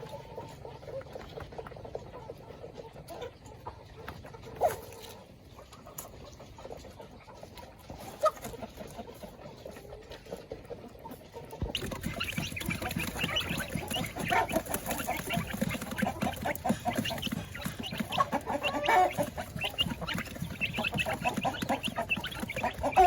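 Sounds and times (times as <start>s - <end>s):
chickens clucking softly: 0.0s - 23.0s
chicken louder calls: 2.1s - 23.0s.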